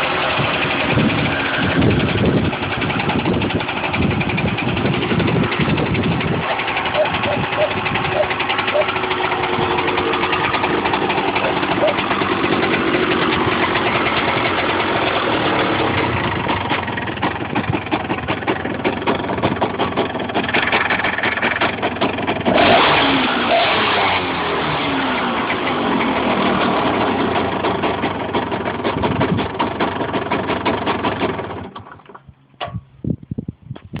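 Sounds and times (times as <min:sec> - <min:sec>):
two-stroke motorcycle engine revving: 0:00.0 - 0:31.8.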